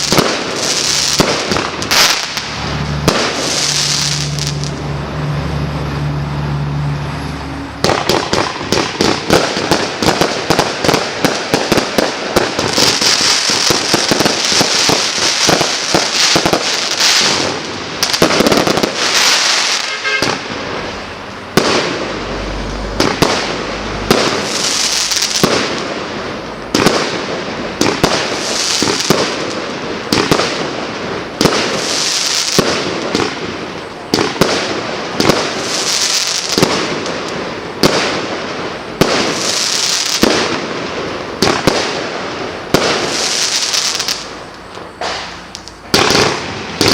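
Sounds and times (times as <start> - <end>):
firework cake firing crackling bursts: 0.0 - 4.8, 7.8 - 46.9.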